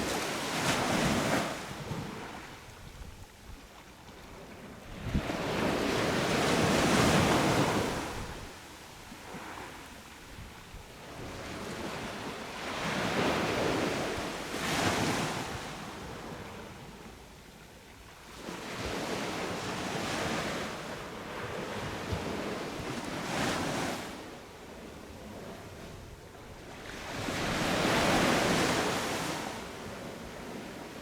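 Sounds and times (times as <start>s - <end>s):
ocean waves breaking on beach: 0.0s - 2.8s, 3.6s - 10.4s, 11.0s - 17.0s, 18.3s - 31.0s.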